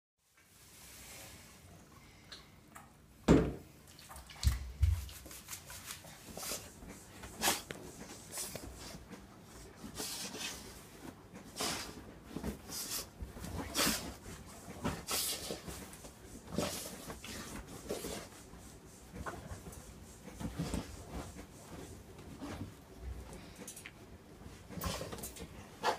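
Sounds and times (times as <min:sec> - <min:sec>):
bedding rustling: 0:04.7 - 0:25.9.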